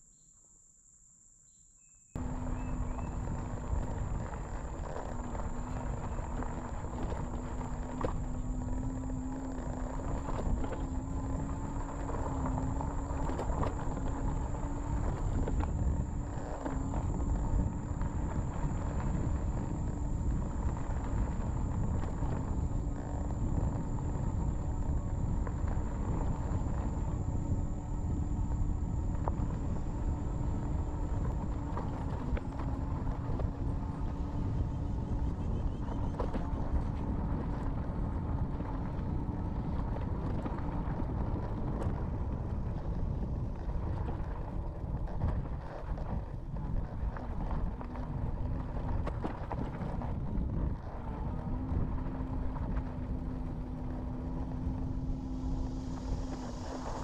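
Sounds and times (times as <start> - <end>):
electric motor hum: 2.2 - 45.4, 47.1 - 57.0
tyres rumbling on dirt trail: 2.2 - 57.0.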